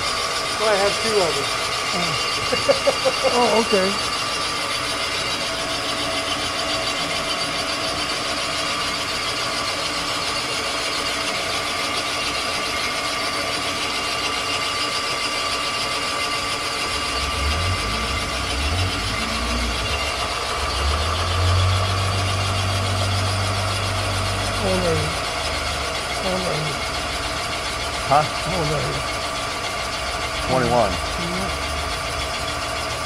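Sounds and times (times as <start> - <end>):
boring machine hum: 0.0 - 33.0.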